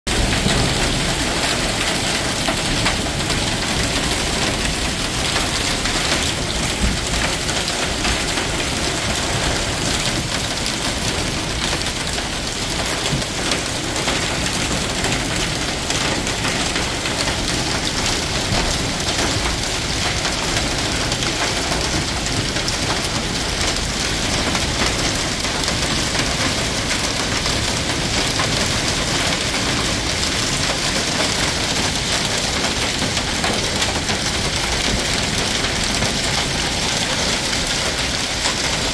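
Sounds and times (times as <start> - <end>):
hail and rain pelting a car: 0.1 - 38.9.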